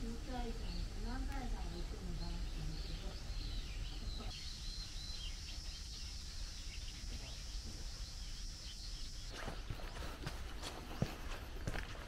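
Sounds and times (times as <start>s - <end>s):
high insect trill: 0.0s - 9.8s
small birds chirping: 0.0s - 12.0s.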